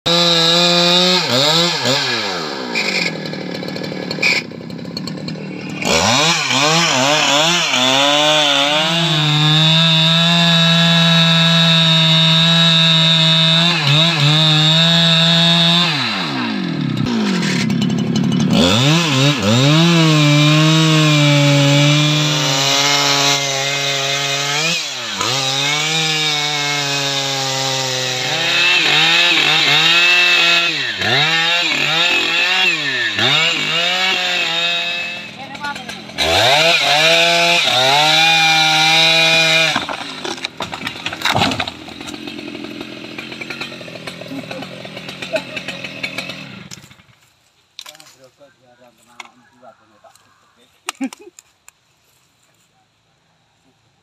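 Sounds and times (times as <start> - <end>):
chainsaw cutting wood: 0.1 - 48.2.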